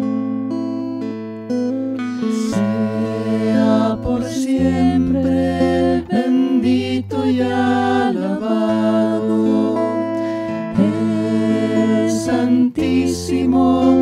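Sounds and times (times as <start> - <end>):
instrumental accompaniment bass notes: 0.0 - 14.0
slow hymn singing: 2.2 - 14.0.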